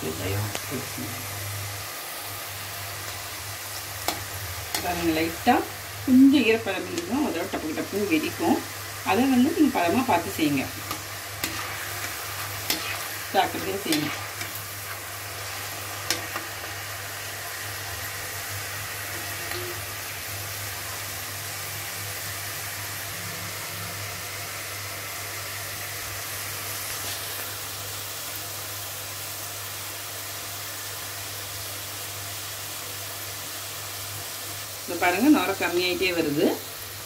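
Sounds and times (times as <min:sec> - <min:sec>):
oil sizzling while deep-frying: 0:00.0 - 0:37.0.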